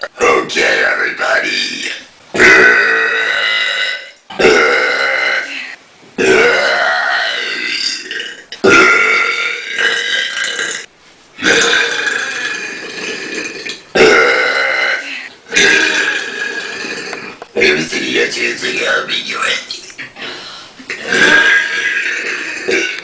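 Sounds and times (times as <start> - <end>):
person belching loudly: 1.7 - 18.0, 19.4 - 23.0.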